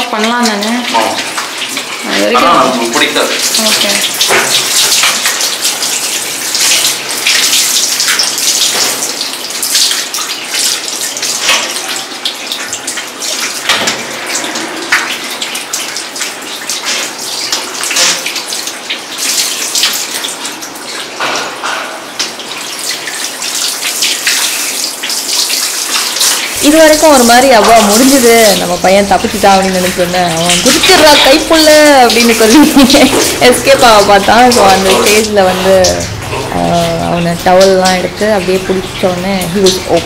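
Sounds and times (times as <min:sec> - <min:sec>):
shower sprayer water running: 0:00.0 - 0:40.0
water splashing: 0:00.0 - 0:40.0.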